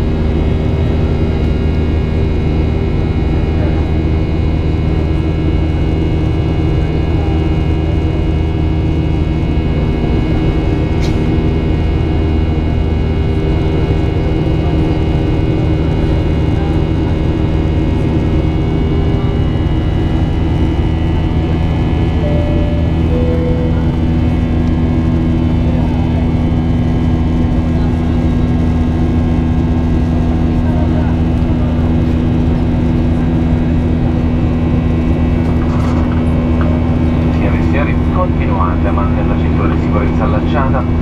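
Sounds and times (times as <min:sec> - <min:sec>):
jet engine drone: 0:00.0 - 0:41.0
steady whining tones: 0:00.0 - 0:41.0.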